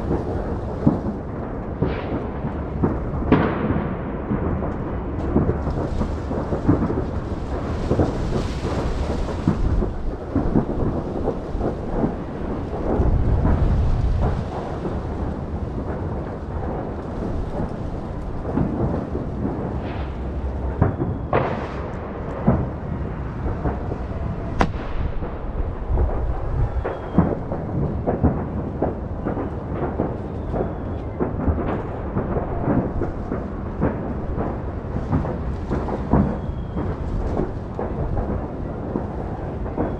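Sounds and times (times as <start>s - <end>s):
fireworks bangs and crackles: 0.0s - 39.9s
low booms: 0.0s - 39.9s.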